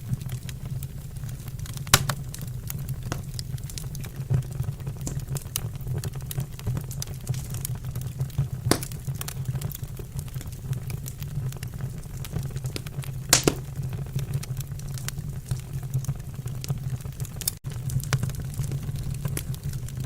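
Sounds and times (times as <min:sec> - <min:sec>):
loud fire snaps: 0:00.0 - 0:20.0
wood fire crackling: 0:00.0 - 0:20.0.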